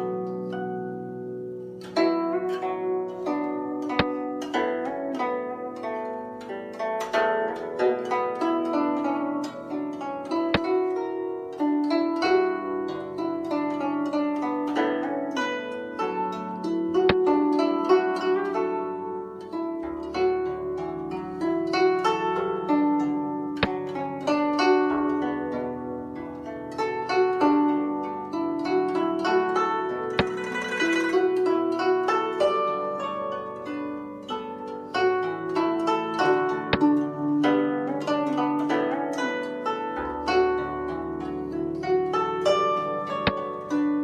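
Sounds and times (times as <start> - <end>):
plucked string instrument music: 0.0 - 44.0.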